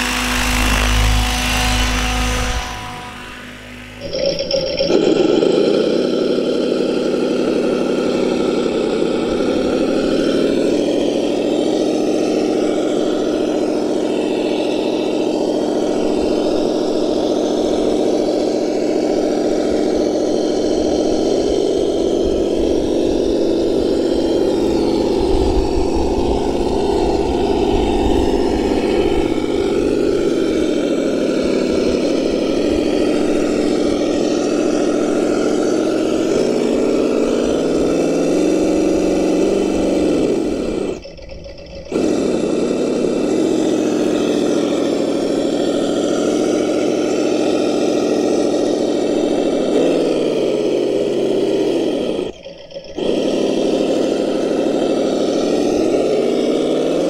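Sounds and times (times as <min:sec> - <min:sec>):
simulated engine sound through speaker: 0:00.0 - 0:57.0.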